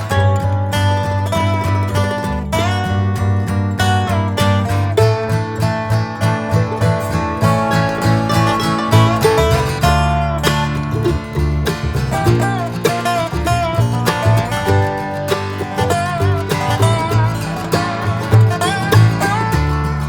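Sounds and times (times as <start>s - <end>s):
acoustic guitar music with bass: 0.0s - 20.0s.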